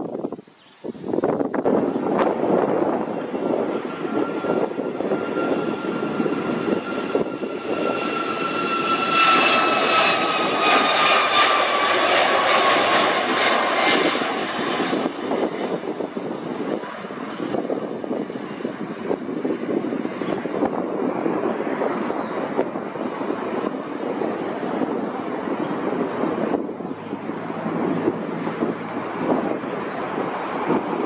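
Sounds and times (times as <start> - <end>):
jet engine whine: 1.1 - 31.0.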